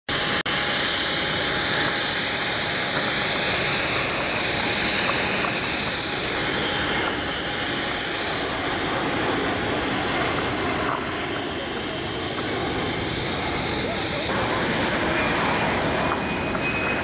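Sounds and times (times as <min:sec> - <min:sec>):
jet engines of airliner flying low: 0:00.1 - 0:17.0.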